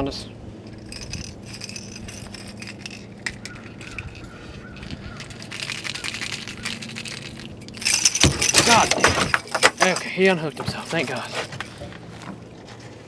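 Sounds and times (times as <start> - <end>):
low steady hum: 0.0 - 13.0
metal hooks jangling: 0.7 - 11.8
fish thrashing and rattling: 0.8 - 11.8.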